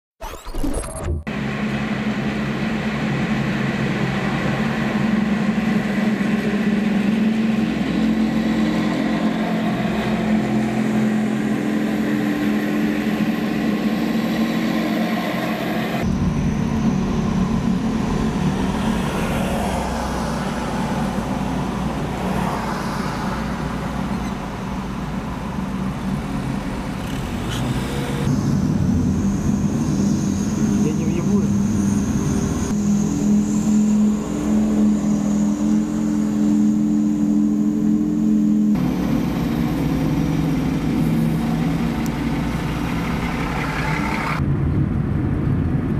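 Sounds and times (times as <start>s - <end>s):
heavy vehicles driving past: 1.3s - 45.9s.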